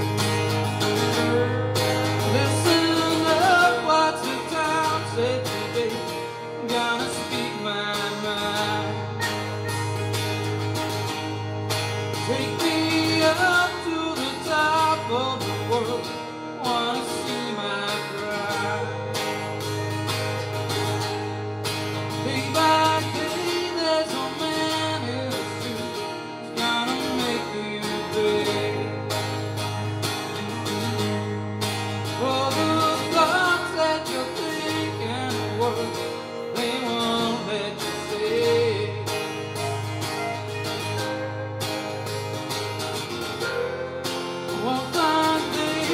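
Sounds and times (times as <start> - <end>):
acoustic guitar: 0.0 - 45.9
electric guitar: 0.0 - 45.9
man singing: 0.8 - 10.3, 12.1 - 20.4, 22.0 - 29.4, 32.1 - 42.4, 43.2 - 45.9.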